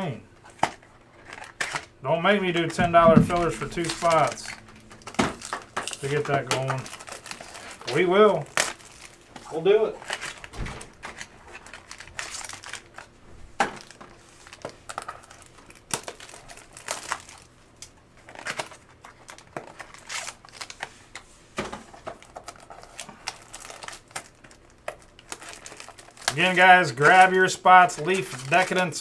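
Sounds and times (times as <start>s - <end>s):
card wrappers rustling: 0.4s - 29.0s.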